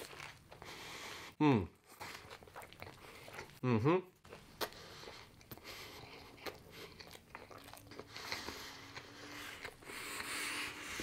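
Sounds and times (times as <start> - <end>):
mouth chewing food: 0.0 - 11.0.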